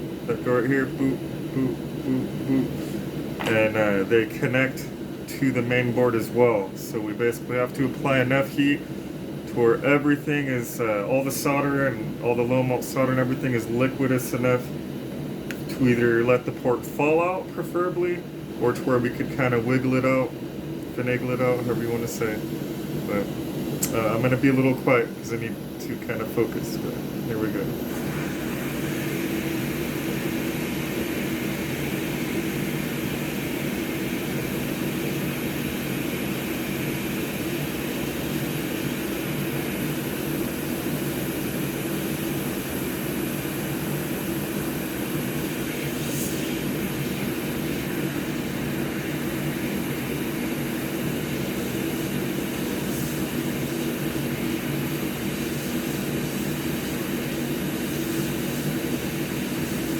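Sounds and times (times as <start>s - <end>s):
hot air station fan hum and hiss: 0.0s - 59.9s.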